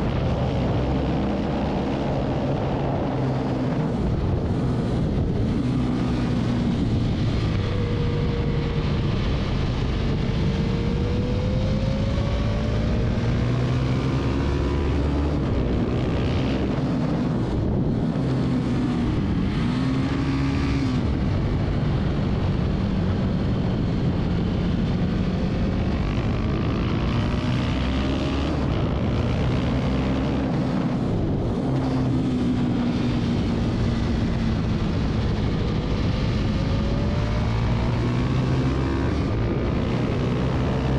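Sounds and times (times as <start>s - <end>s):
motorcycle engine revving: 0.0s - 40.9s
wind rushing: 0.0s - 40.9s.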